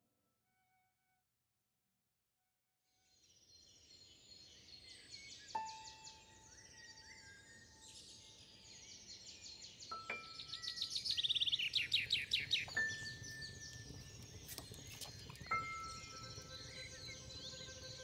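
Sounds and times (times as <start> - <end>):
birdsong chirps and trills: 3.2 - 18.0.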